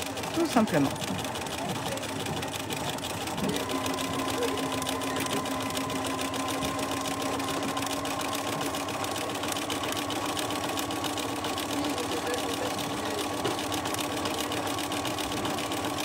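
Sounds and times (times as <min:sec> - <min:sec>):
rapid needle ticking: 0:00.0 - 0:16.0
sewing machine motor hum: 0:00.0 - 0:16.0.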